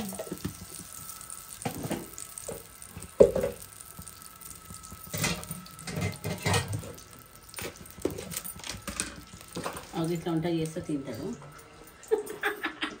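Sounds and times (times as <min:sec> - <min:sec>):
hot oil sizzling in a pan: 0:00.0 - 0:12.6.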